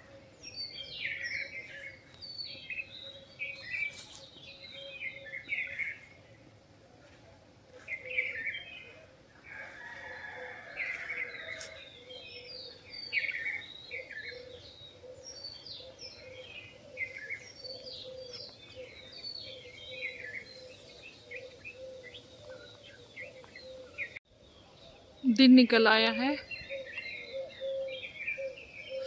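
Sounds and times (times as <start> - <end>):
small birds chirping: 0.0 - 6.6, 7.7 - 29.0.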